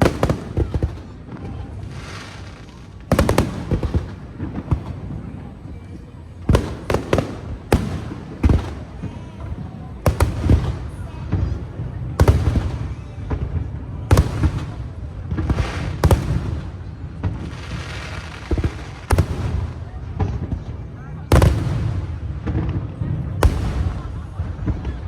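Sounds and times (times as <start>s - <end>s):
fireworks bursting with bangs: 0.0s - 25.0s
fireworks crackling: 0.0s - 25.0s.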